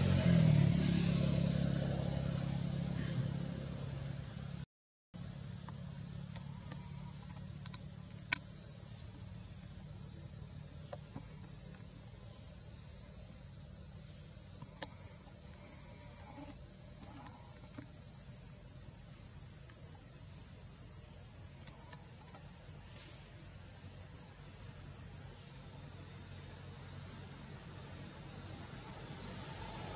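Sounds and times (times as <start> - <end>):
insects chorus: 0.0 - 4.6, 5.2 - 29.9.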